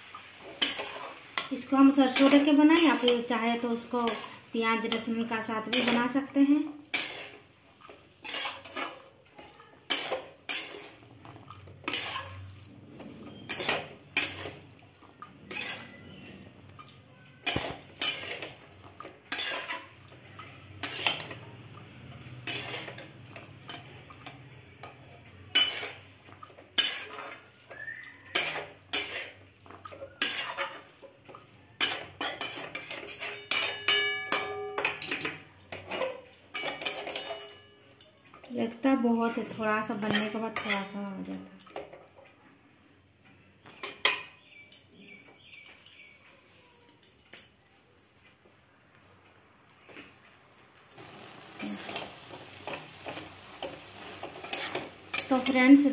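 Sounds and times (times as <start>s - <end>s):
metal spatula scraping a pan: 0.0s - 38.4s, 39.3s - 41.0s, 51.0s - 55.9s.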